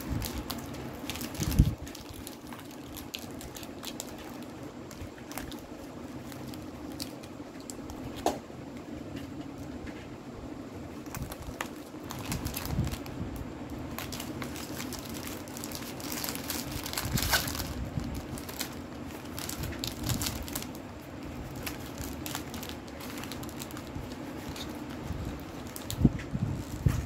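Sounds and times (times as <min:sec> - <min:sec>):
plastic wrapper crinkling: 0:00.0 - 0:08.4, 0:10.9 - 0:27.0.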